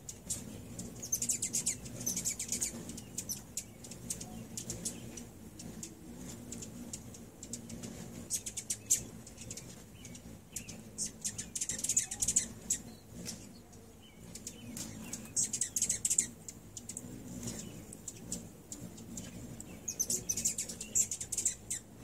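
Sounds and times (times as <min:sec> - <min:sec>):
hummingbird wings humming: 0:00.0 - 0:22.0
hummingbirds twittering: 0:00.0 - 0:22.0.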